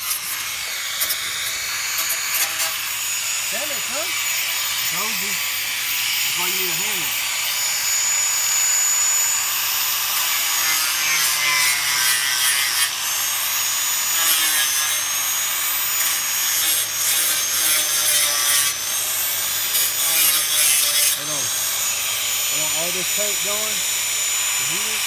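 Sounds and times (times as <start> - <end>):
power sander grinding on metal: 0.0 - 25.0.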